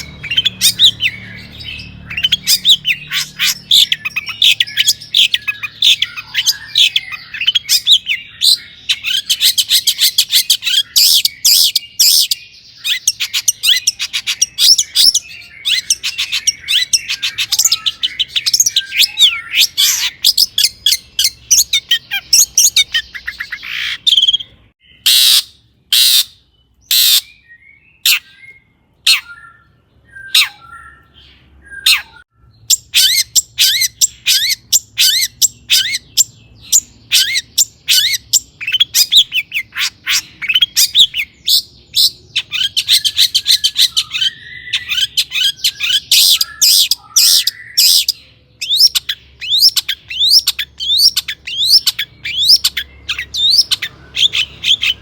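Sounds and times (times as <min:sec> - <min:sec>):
shrike chattering song: 0:00.0 - 0:27.3, 0:30.2 - 0:55.0
loud harsh bird notes: 0:00.0 - 0:55.0.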